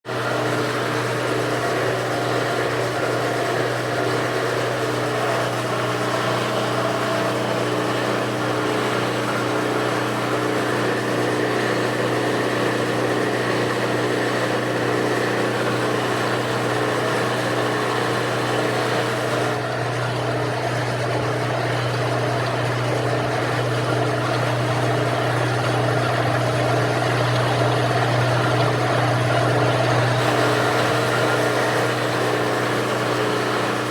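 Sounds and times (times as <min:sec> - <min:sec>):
machine humming: 0:00.1 - 0:33.9.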